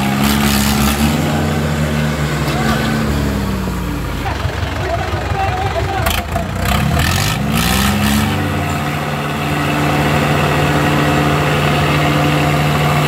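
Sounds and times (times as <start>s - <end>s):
diesel tractor engine revving: 0.0s - 13.0s.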